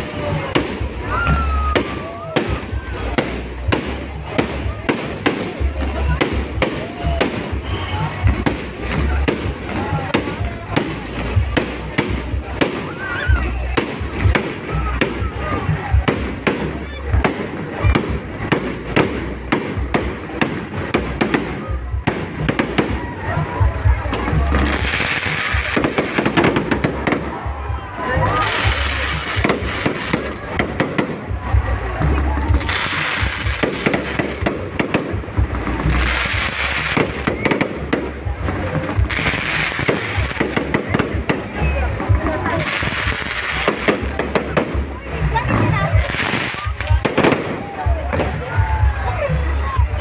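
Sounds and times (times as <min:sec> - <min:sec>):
fireworks bangs and pops: 0:00.0 - 0:48.8
continuous rumble: 0:00.0 - 0:50.0.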